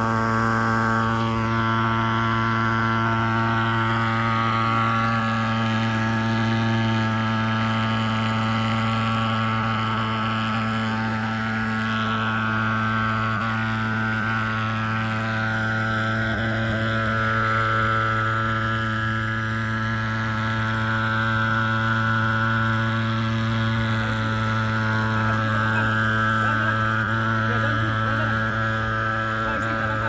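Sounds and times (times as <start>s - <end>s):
fogging machine buzzing drone: 0.0s - 30.0s.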